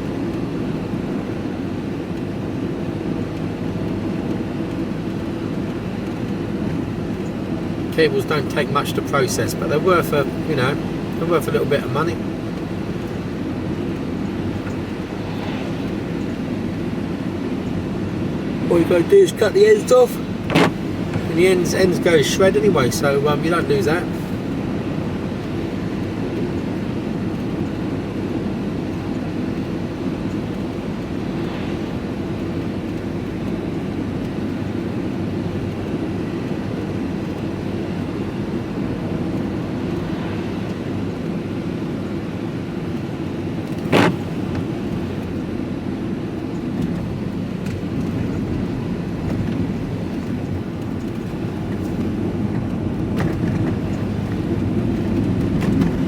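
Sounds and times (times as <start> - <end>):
engine and road noise in vehicle: 0.0 - 56.0.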